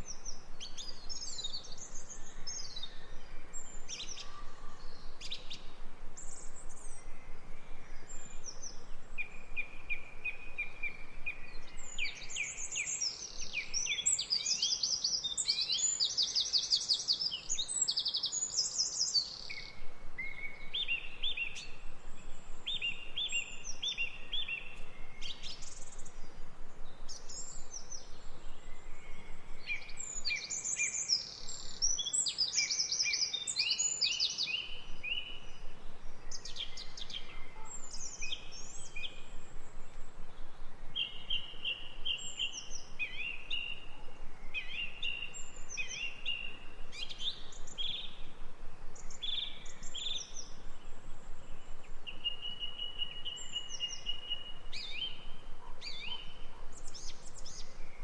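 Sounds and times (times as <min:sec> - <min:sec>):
faint background hiss: 0:00.0 - 0:58.0
songbirds singing and chirping: 0:00.0 - 0:58.0.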